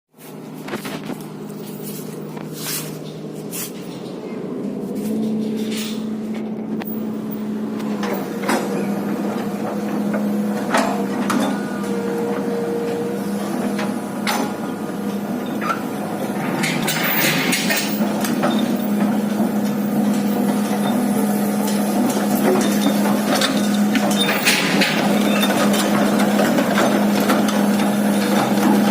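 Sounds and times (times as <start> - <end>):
excavator engine hum: 0.2 - 28.9.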